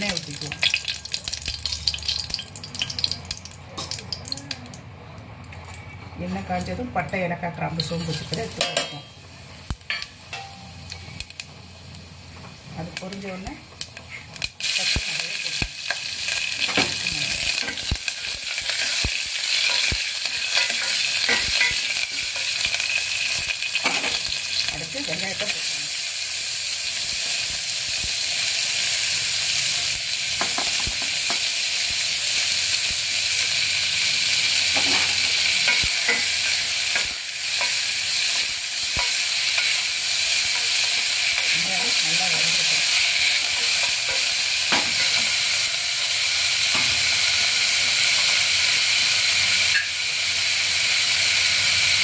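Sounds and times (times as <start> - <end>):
hot oil sizzling: 0.0 - 52.0.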